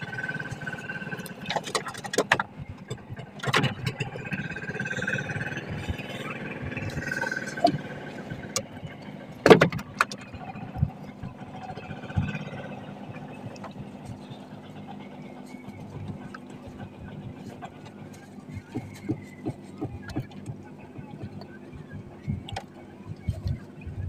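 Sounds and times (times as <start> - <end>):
knocks and clicks from gear: 0.0 - 24.0
small boat engine chugging: 0.0 - 24.0.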